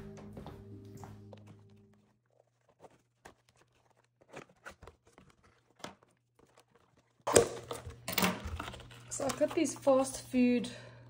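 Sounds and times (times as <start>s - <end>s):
plastic crinkling: 1.4s - 10.2s.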